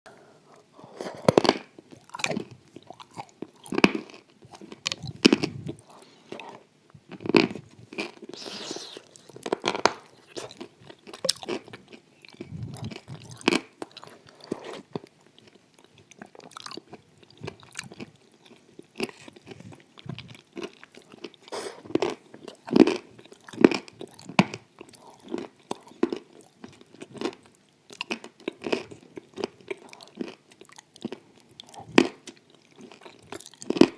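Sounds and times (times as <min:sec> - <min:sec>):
person chewing and crunching: 0:00.8 - 0:33.9.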